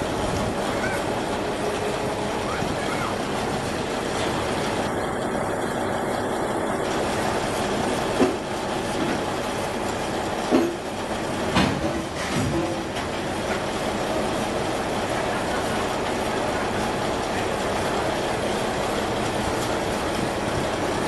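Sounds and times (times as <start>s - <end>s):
diesel engines running: 0.0s - 21.0s.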